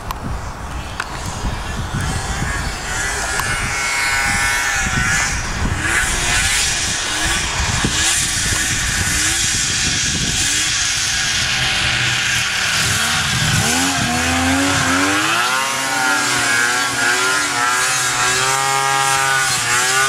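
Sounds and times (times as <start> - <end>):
snowmobile engine revving: 0.7 - 20.0.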